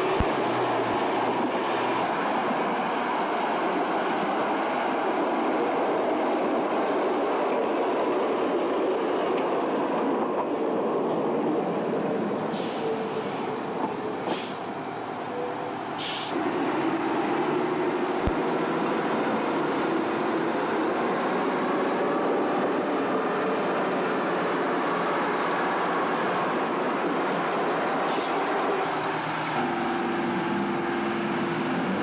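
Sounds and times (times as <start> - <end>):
rail machinery running: 0.0 - 32.0.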